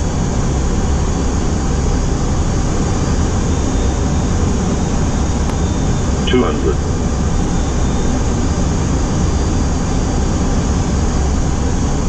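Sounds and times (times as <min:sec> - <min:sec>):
cockpit airflow and engine rumble: 0:00.0 - 0:12.0.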